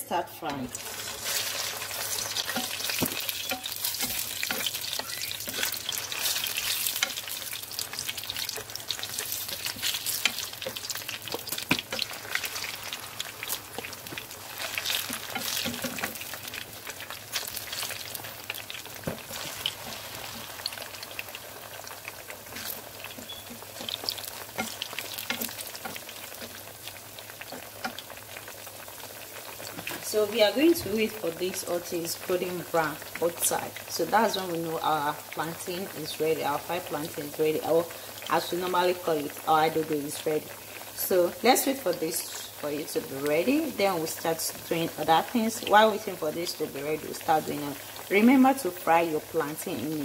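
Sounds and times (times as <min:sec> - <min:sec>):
plantain deep-frying in oil: 0:00.4 - 0:50.0
oil popping and crackling: 0:00.6 - 0:50.0.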